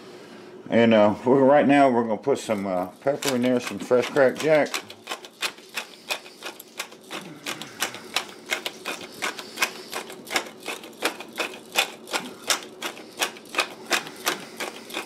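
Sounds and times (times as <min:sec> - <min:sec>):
pepper mill grinder clicking: 0:02.5 - 0:15.0.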